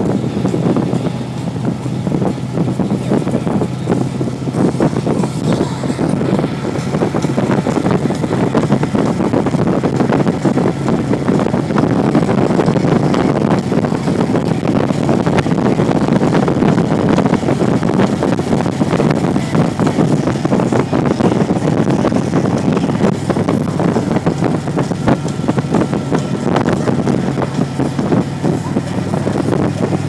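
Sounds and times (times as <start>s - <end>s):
motorcycle engine: 0.0s - 30.0s
road noise: 0.0s - 30.0s
wind buffeting microphone: 0.0s - 30.0s.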